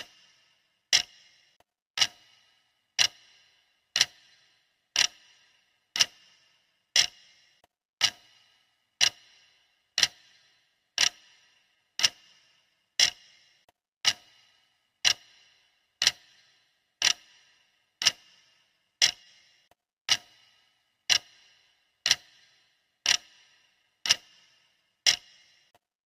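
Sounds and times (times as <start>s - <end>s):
clock ticking: 0.0s - 25.8s.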